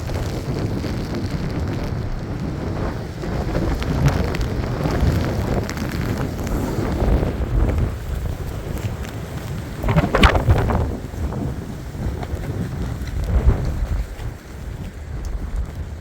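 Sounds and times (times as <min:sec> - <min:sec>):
rain ticks: 0:00.0 - 0:16.0
wind buffeting microphone: 0:00.0 - 0:16.0.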